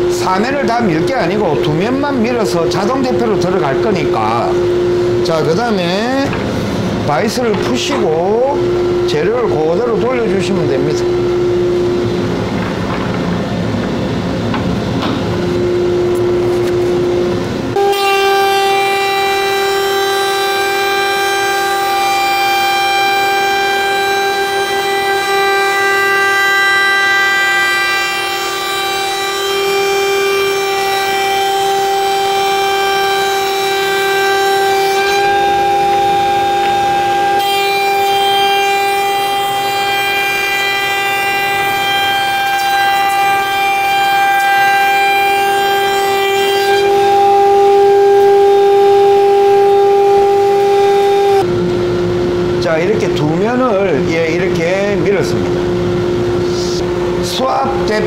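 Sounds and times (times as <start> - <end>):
cutter head whining: 0.0 - 58.0
wood machine low rumbling: 0.0 - 58.0.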